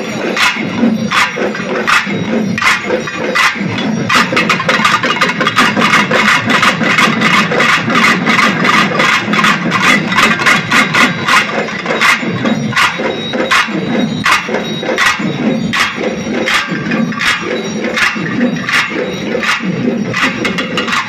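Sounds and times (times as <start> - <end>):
drums beaten with sticks: 0.0 - 21.0.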